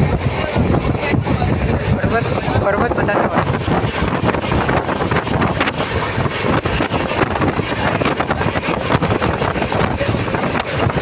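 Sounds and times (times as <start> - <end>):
train rattling: 0.0 - 11.0
train running rumble: 0.0 - 11.0
wind buffeting microphone: 0.0 - 11.0.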